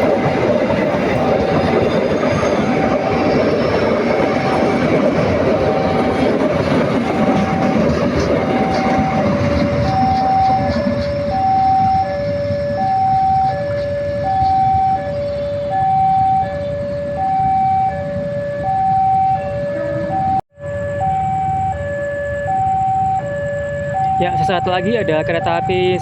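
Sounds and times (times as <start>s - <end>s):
two-tone electronic warning alarm: 0.0s - 26.0s.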